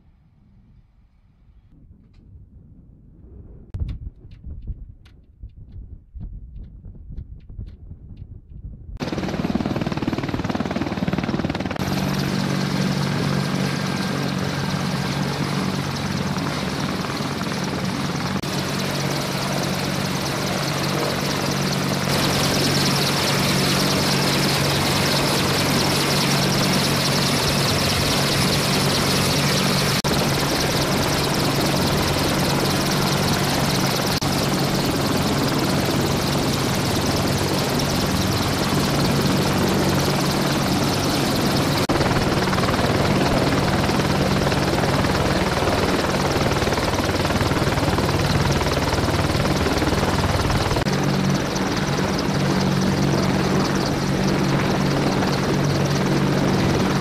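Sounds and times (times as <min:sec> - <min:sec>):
helicopter turbine and rotor noise: 0:09.0 - 0:57.0.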